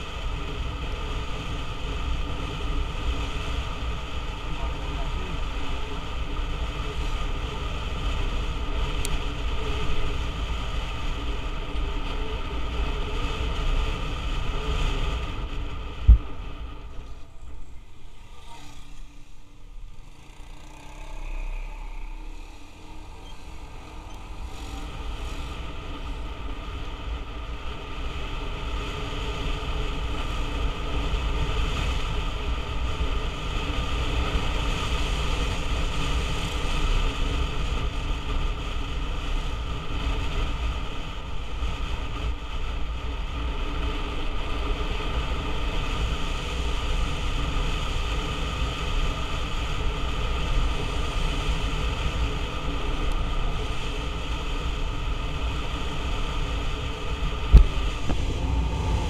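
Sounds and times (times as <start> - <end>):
low wind: 0.0 - 59.0
motorcycle engine running: 0.0 - 59.0
road rumble: 0.0 - 59.0.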